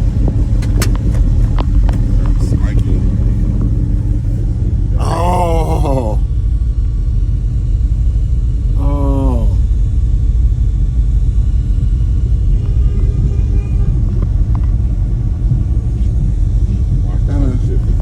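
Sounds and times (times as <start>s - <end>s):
loud low bass from subwoofers: 0.0s - 18.0s.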